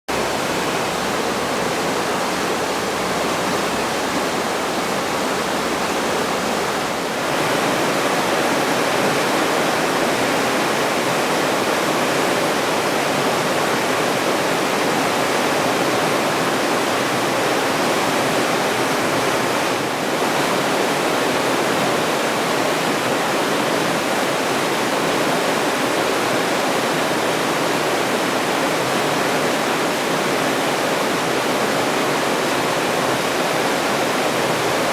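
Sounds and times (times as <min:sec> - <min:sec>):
rushing stream water: 0:00.1 - 0:34.9.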